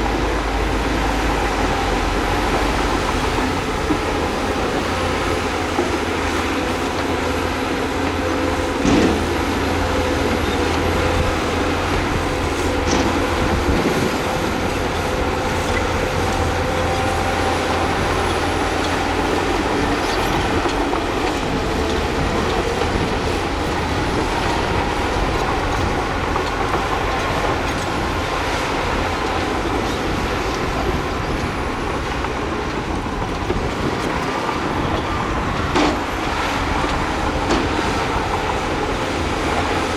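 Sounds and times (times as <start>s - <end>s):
bulldozer diesel engine: 0.0s - 39.9s
steel tracks running: 0.0s - 39.9s.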